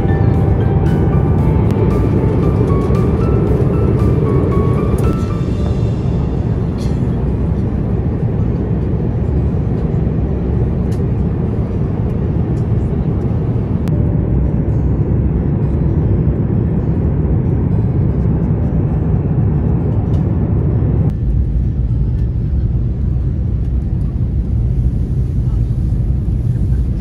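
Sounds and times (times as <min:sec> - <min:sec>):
airliner cabin rush: 0:00.0 - 0:13.9, 0:18.0 - 0:27.0.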